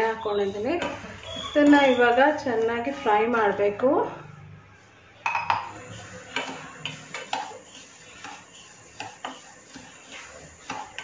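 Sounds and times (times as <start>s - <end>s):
wooden spatula scraping a pan: 0.0s - 4.2s, 5.7s - 11.0s.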